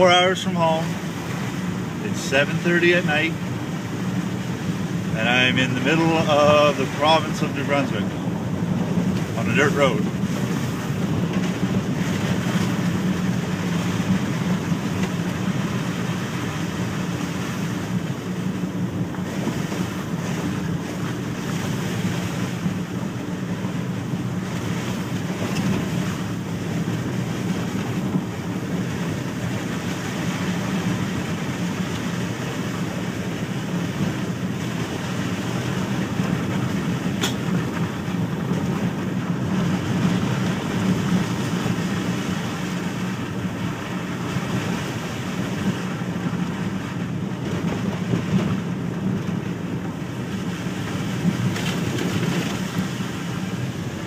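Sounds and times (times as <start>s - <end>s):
car engine running: 0.0s - 54.0s
tyres rumbling on road: 0.0s - 54.0s.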